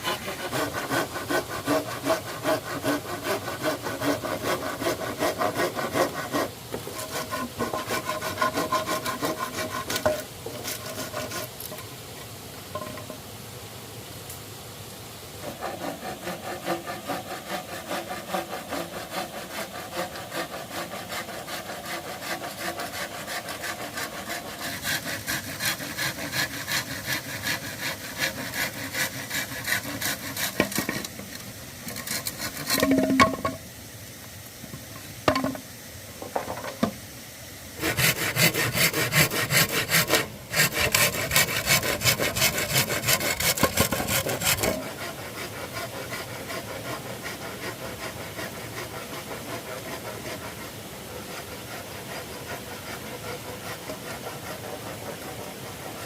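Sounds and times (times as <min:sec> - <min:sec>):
hand saw cutting wood: 0:00.0 - 0:11.9, 0:15.4 - 0:33.6, 0:37.8 - 0:56.0.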